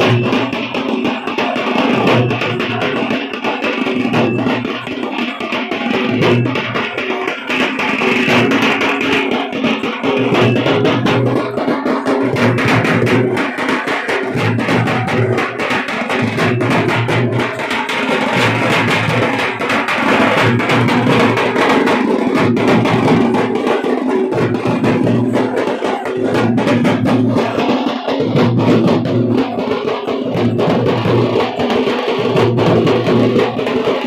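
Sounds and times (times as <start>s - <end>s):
fast drumming: 0.0s - 34.0s.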